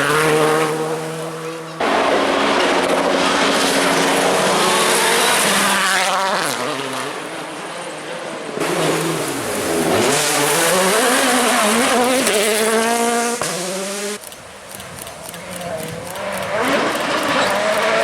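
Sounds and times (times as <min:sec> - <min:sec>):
rally car engines at high revs: 0:00.0 - 0:14.2, 0:15.6 - 0:18.0.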